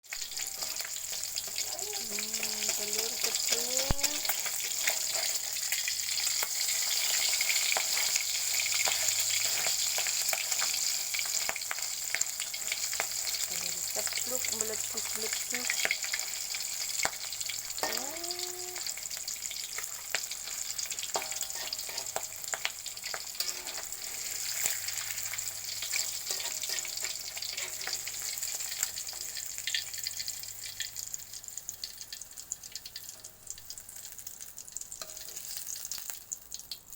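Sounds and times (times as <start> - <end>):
egg sizzling in oil: 0.0 - 36.9.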